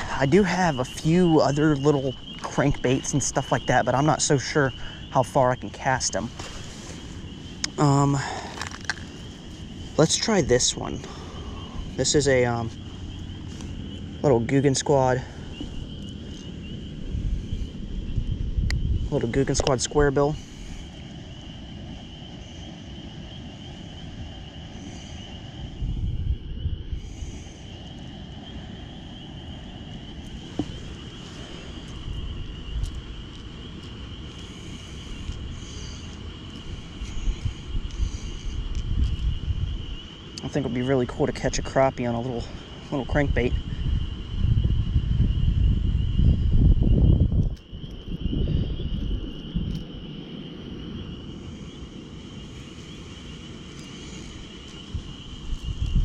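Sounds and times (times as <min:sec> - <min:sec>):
high-pitched insect chorus: 0:00.0 - 0:56.0
wind rumbling on microphone: 0:00.0 - 0:56.0.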